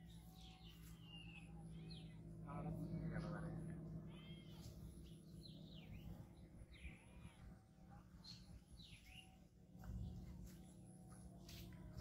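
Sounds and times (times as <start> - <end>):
bird chirps: 0.0 - 11.7
low background rumble: 0.0 - 12.0.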